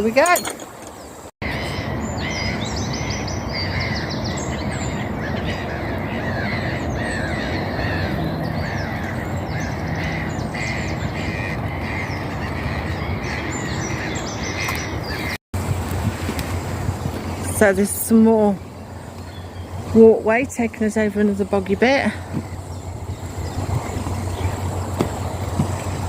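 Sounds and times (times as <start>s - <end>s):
birds chirping and singing: 0.0s - 15.4s, 17.0s - 25.6s.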